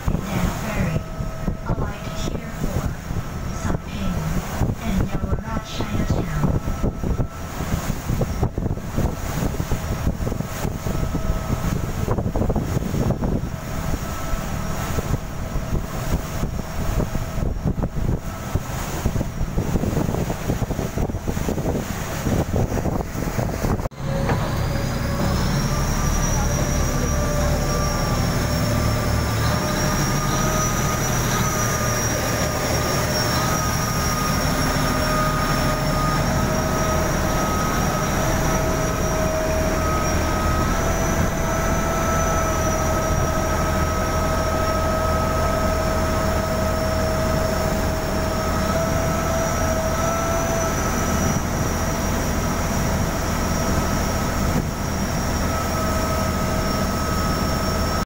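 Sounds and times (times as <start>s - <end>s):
boat diesel engine drone: 0.0s - 58.0s
wake rushing against hull: 0.0s - 58.0s.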